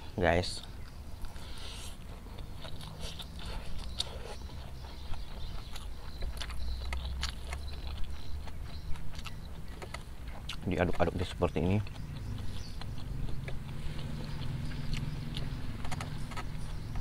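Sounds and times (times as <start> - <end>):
low steady rumble: 0.0 - 17.0
close chewing with mouth smacks: 0.6 - 17.0.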